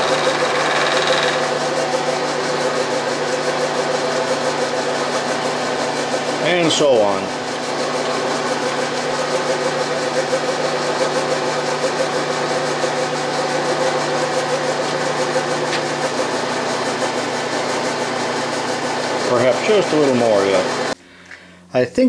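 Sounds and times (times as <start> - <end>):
milling machine cutting metal: 0.0 - 21.0
spindle running: 0.0 - 21.0.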